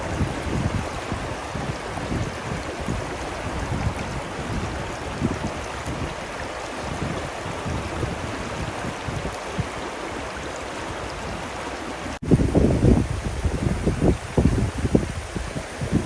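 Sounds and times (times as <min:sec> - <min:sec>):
river water flowing: 0:00.0 - 0:16.0
wind rumbling on microphone: 0:00.0 - 0:16.0.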